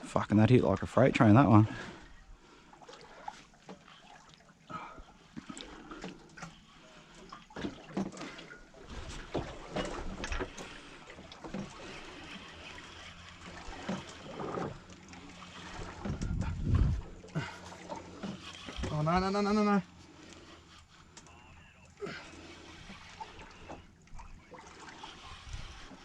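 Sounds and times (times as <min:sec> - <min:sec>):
water lapping against boat hull: 0:00.0 - 0:26.0.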